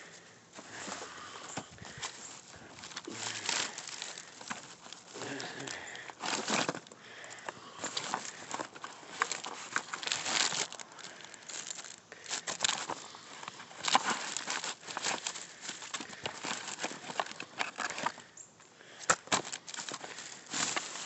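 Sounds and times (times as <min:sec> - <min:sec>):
plastic bags and cardboard rustling: 0:00.0 - 0:21.0.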